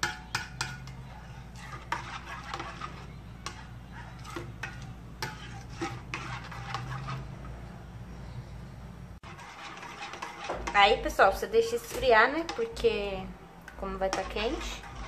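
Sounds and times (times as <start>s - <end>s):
spoon clinking and scraping bowl: 0.0s - 7.6s, 9.2s - 13.0s, 14.0s - 15.0s.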